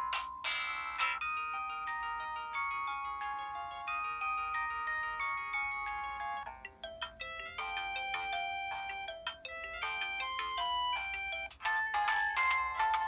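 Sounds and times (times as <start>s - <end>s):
mobile phone ringtone melody: 1.0s - 13.0s.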